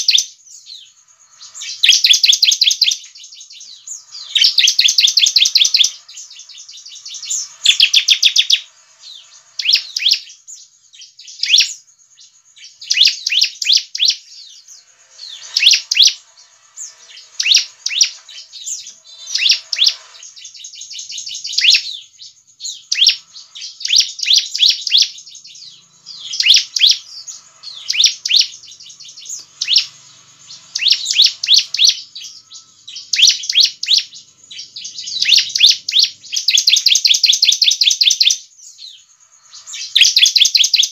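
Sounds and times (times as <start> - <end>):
bird chirping trills: 0.0 - 40.9.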